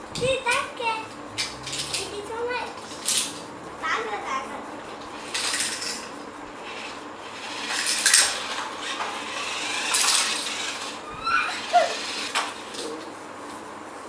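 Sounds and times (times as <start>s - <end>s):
toy cars clattering: 0.2s - 3.5s, 5.1s - 13.1s.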